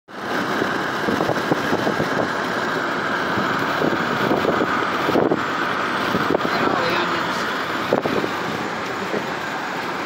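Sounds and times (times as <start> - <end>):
car road and engine noise: 0.1 - 10.0.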